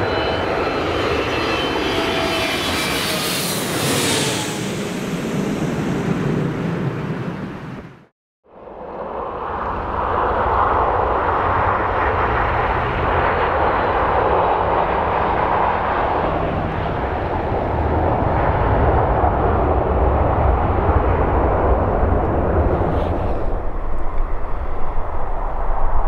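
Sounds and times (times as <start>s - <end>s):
jet engines roaring: 0.0s - 8.0s, 8.7s - 26.0s.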